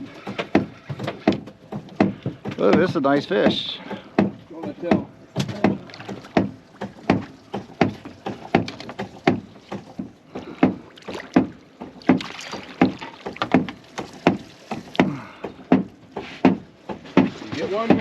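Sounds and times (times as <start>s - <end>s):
thumping on boat hull: 0.0s - 18.0s.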